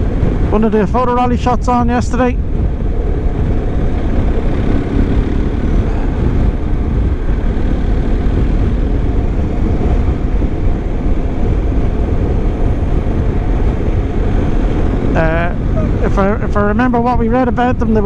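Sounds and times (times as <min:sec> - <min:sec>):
wind rush: 0:00.0 - 0:18.0
motorcycle engine: 0:01.6 - 0:17.6.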